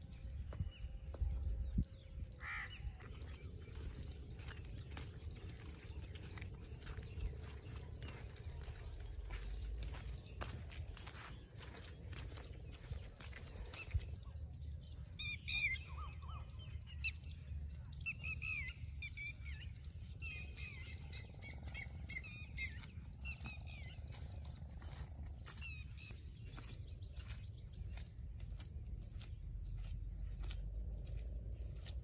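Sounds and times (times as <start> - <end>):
steady low rumble: 0.0 - 15.2, 16.4 - 32.0
small birds chirping: 0.0 - 32.0.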